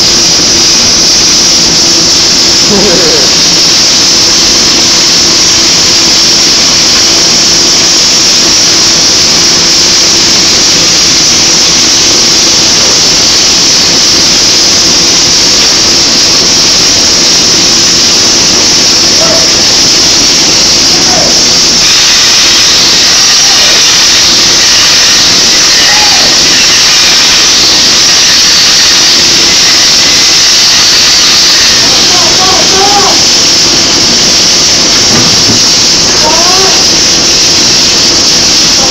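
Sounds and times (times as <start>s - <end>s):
angle grinder grinding steel: 0.0s - 38.9s
welding machine hiss and hum: 0.0s - 38.9s.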